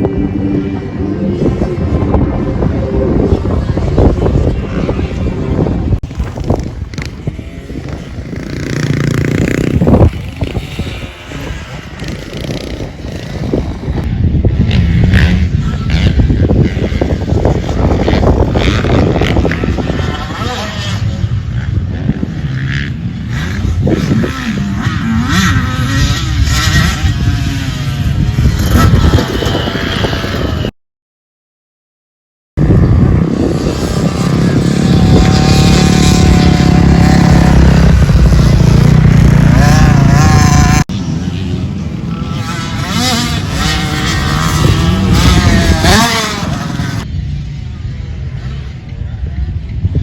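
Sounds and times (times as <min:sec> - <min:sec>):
dirt bike engine revving: 0:00.0 - 0:30.7, 0:32.6 - 0:47.1.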